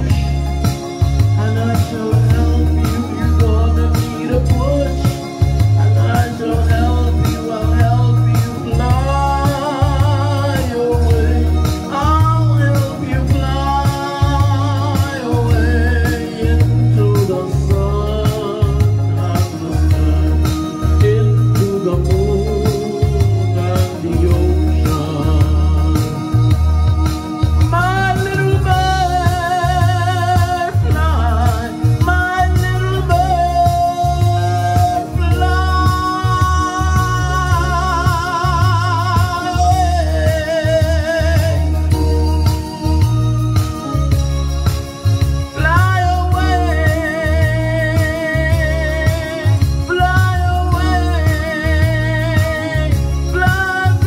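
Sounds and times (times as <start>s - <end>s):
man singing with vibrato: 0.0s - 54.0s
music with pulsing bass: 0.0s - 54.0s.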